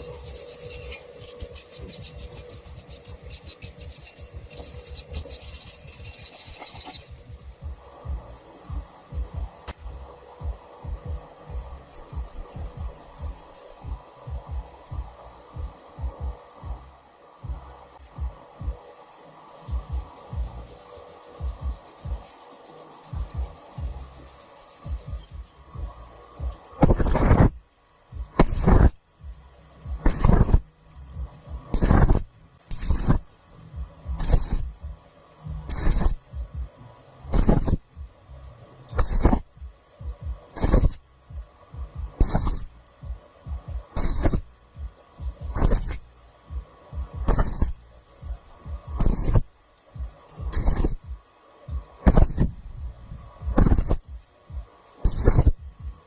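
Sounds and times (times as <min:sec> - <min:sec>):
slow thumping beat music: 0:00.0 - 0:56.0.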